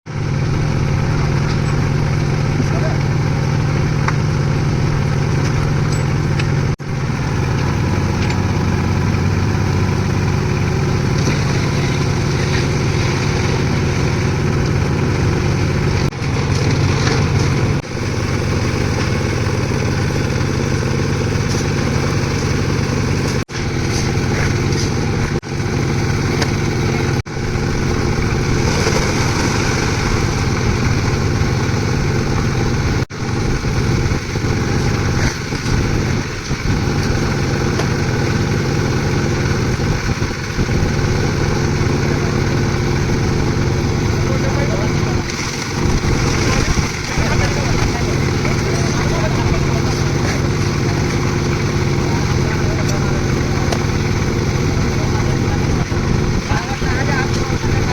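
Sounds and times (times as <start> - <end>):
concrete mixer engine running: 0.0 - 57.9.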